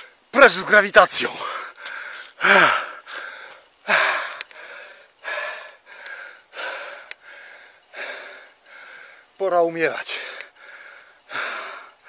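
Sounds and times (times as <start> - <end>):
man panting hard: 1.4 - 9.3, 10.1 - 12.0.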